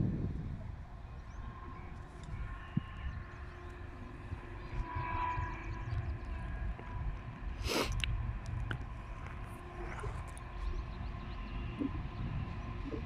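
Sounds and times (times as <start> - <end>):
low rumble: 0.0 - 13.0
distant train horn: 1.3 - 13.0.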